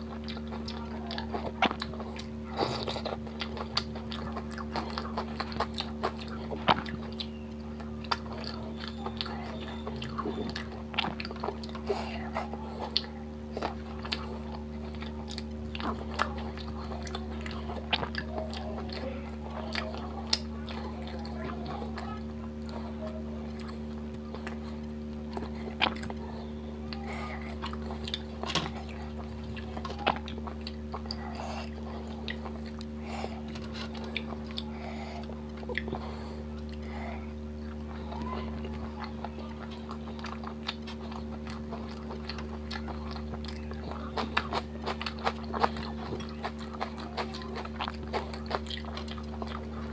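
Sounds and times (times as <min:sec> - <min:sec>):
close chewing and biting: 0:00.0 - 0:49.9.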